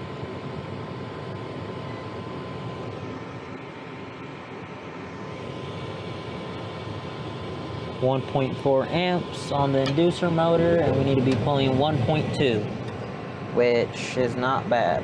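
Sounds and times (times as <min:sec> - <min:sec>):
faint steady tone: 0:00.0 - 0:15.0
furnace motor running: 0:00.0 - 0:15.0.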